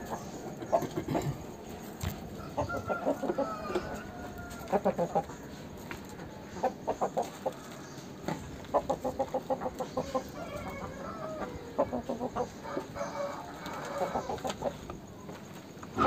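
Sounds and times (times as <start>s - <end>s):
rooster clucking: 0.0s - 5.7s, 6.4s - 7.7s, 8.4s - 14.9s.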